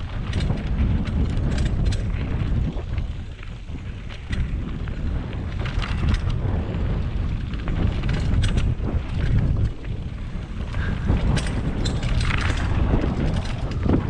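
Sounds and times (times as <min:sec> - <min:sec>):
bike clicks and rattles: 0:00.0 - 0:14.0
wind buffeting microphone: 0:00.0 - 0:14.0.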